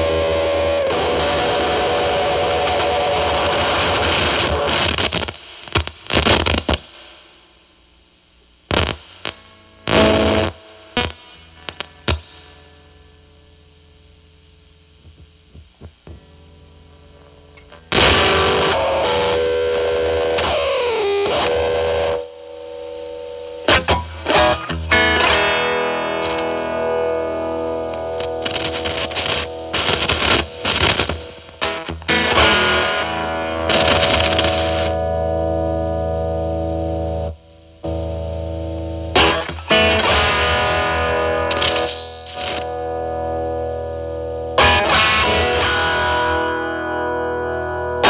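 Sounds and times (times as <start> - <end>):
fuzzy guitar amp buzz: 0.0 - 48.0.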